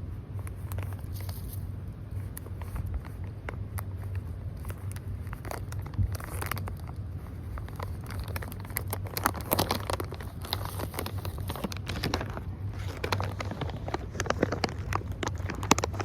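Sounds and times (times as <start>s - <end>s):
dog chewing a treat: 2.4s - 16.0s.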